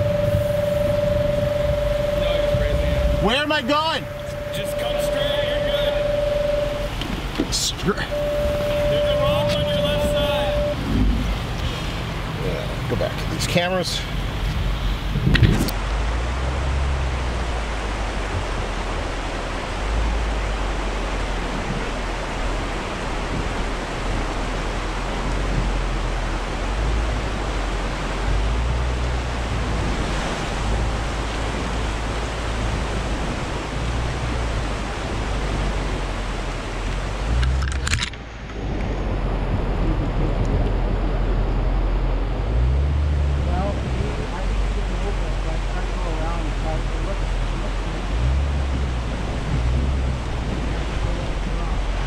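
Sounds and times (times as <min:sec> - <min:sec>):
fast-flowing river rushing: 0:00.0 - 0:52.0
low rumbles: 0:00.0 - 0:52.0.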